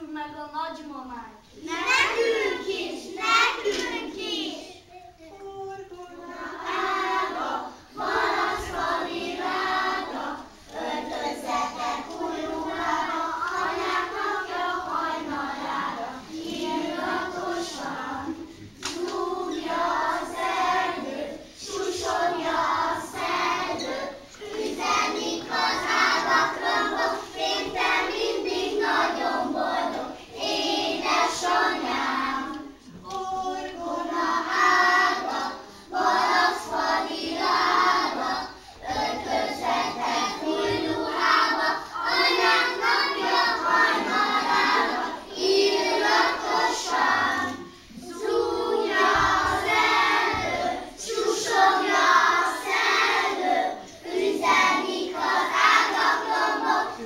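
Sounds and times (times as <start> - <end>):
children singing together: 1.4 - 57.0.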